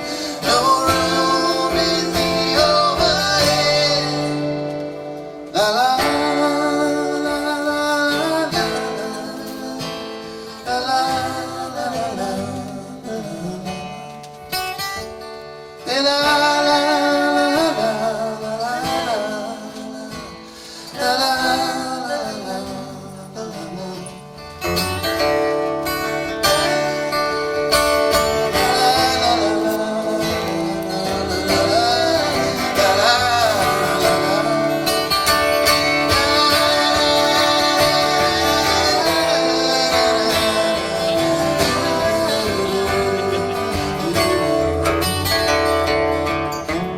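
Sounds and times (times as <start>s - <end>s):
live band with guitar: 0.0s - 46.9s.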